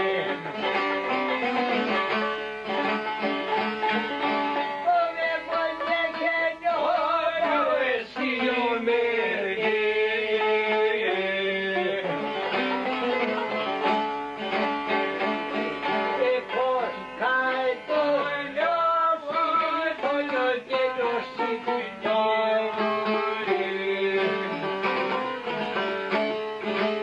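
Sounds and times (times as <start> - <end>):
person singing folk song: 0.0 - 27.0
plucked string instrument: 0.0 - 27.0.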